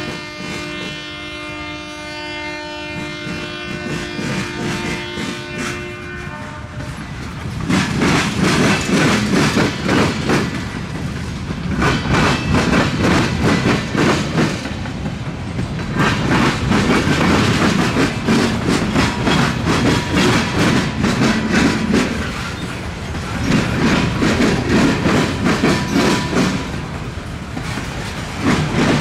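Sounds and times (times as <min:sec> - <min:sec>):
freight train rumble: 0:00.0 - 0:29.0
wheels clacking over rail joints: 0:02.8 - 0:29.0.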